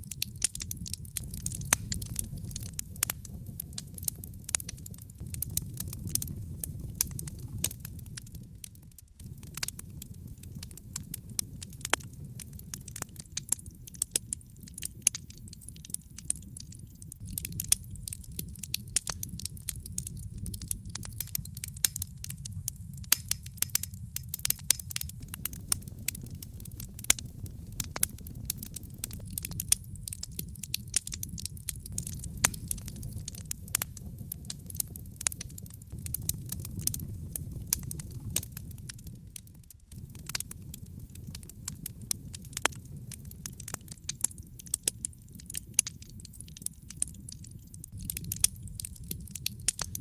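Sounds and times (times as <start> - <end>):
low rumble of burning: 0.0 - 50.0
wood fire crackling and popping: 0.0 - 50.0.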